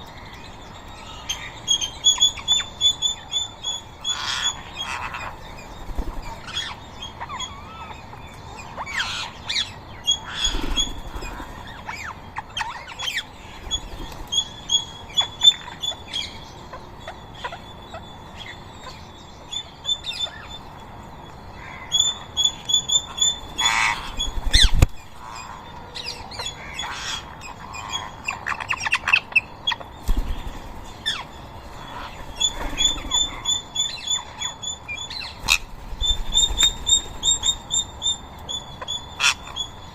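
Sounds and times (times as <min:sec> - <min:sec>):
parrots squawking and chattering: 0:01.0 - 0:08.0, 0:08.8 - 0:19.0, 0:21.6 - 0:39.8.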